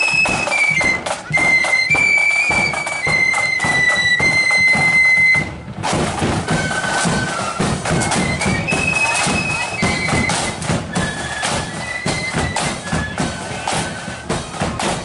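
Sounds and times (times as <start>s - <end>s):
flutes playing melody: 0.0s - 15.0s
marching drum beats: 0.0s - 15.0s.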